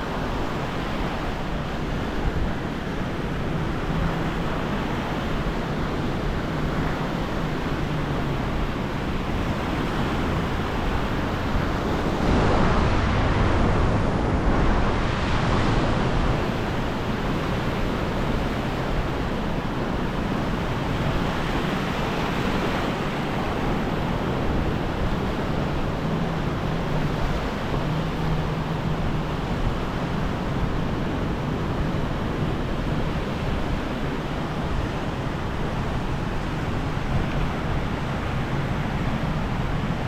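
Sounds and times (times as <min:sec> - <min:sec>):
waves breaking on sandy beach: 0:00.0 - 0:40.0.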